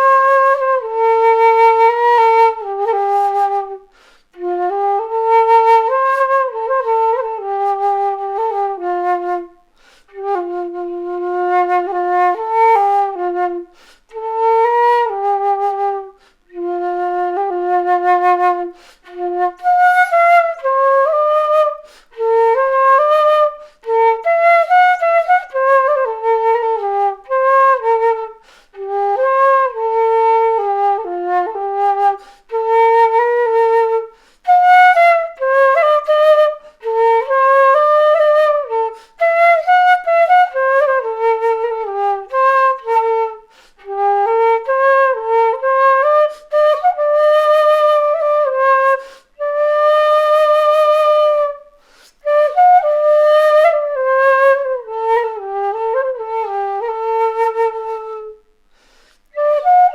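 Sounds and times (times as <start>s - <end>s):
flute melody: 0.0s - 59.9s.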